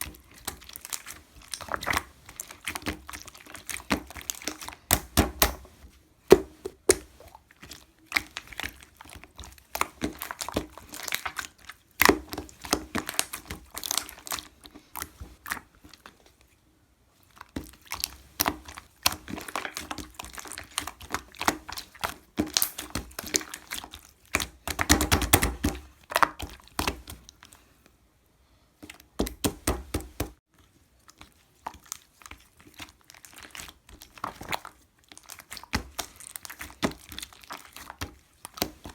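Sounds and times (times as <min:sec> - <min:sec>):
slime squished by hand: 0:00.0 - 0:16.4, 0:17.2 - 0:27.6, 0:28.8 - 0:38.9.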